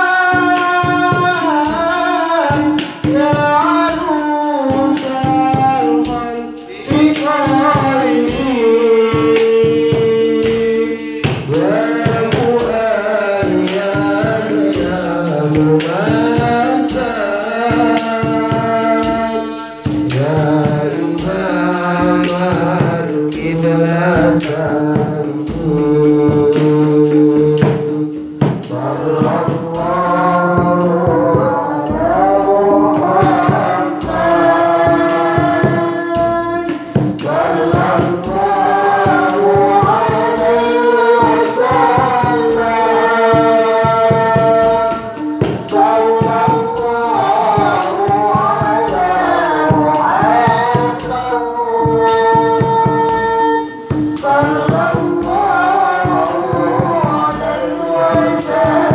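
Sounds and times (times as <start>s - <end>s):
hand drums with jingles: 0.0s - 58.9s
man singing into a microphone: 0.0s - 58.9s.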